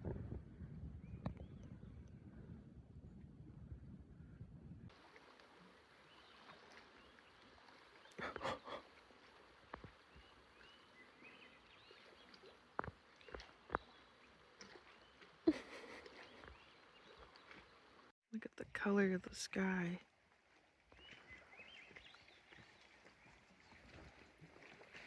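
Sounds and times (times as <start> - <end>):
faint shoreline ambience: 3.8 - 25.0.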